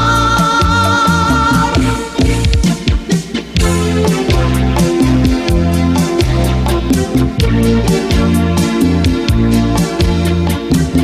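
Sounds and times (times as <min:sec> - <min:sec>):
latin band playing: 0:00.0 - 0:11.0.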